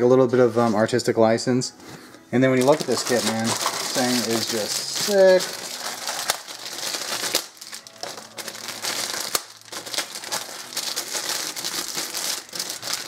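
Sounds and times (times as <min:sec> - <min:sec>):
plastic bags crinkling: 0:02.4 - 0:13.0.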